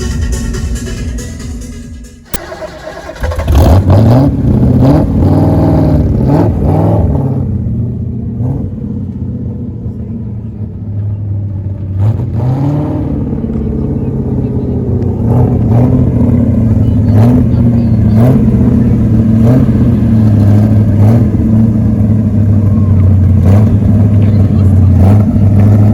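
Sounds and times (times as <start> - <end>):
car engine revving and idling: 0.0 - 25.9.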